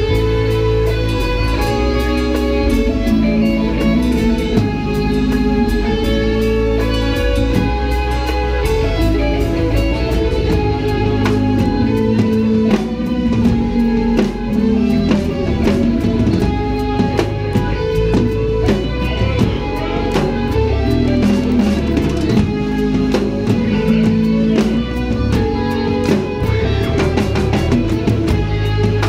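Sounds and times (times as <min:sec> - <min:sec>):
drum and cymbal hits: 0:00.0 - 0:29.0
electric guitar riffs: 0:00.0 - 0:29.0
live rock band: 0:00.0 - 0:29.0.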